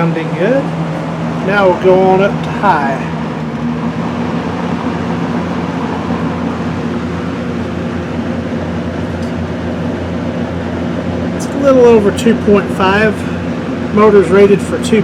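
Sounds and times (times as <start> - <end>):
fan air rushing: 0.0 - 15.0
low motor hum: 0.0 - 15.0.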